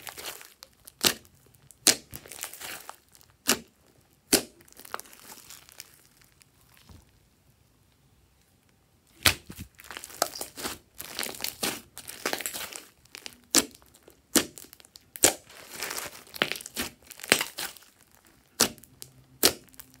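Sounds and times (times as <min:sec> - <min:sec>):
slime popping: 0:00.0 - 0:06.2, 0:09.1 - 0:20.0
slime squelching: 0:00.0 - 0:07.2, 0:09.1 - 0:20.0.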